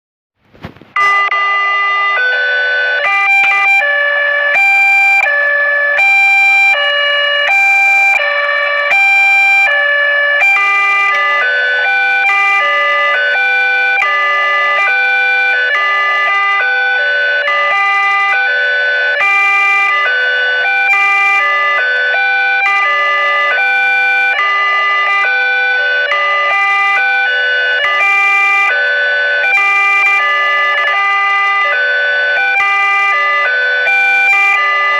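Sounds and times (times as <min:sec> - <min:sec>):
electronic siren alternating tones: 0:00.9 - 0:34.9.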